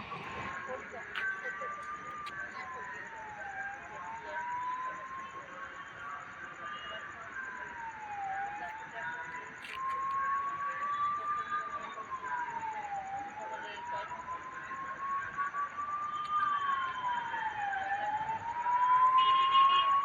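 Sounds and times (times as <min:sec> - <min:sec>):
siren wailing: 0:00.0 - 0:05.4, 0:07.3 - 0:20.0.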